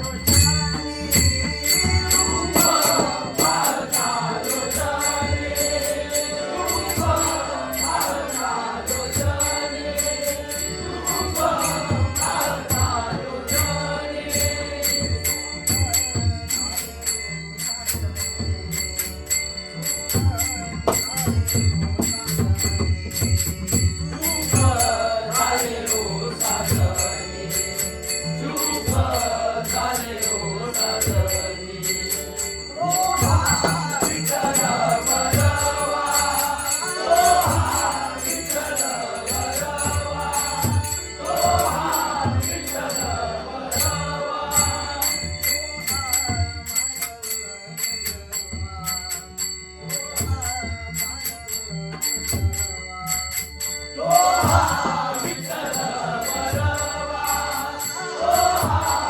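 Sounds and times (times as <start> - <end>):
steady drum beat: 0.0 - 17.0, 20.0 - 47.2, 54.1 - 59.0
devotional singing: 0.0 - 17.2, 20.1 - 49.0, 53.9 - 59.0.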